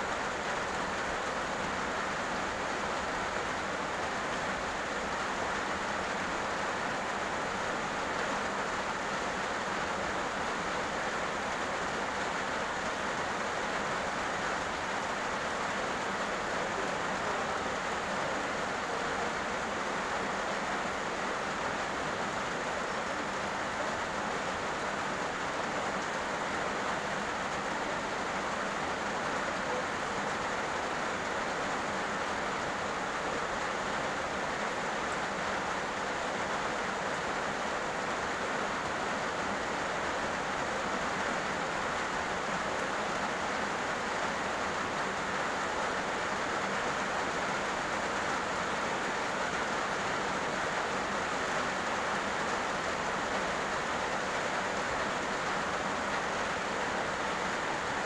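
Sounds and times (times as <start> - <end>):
heavy rain on a road: 0.0 - 58.0.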